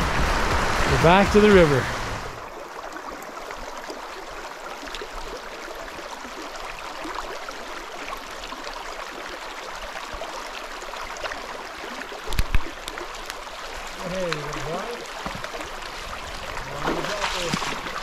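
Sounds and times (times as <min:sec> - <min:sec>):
stream flowing: 0:00.0 - 0:18.0.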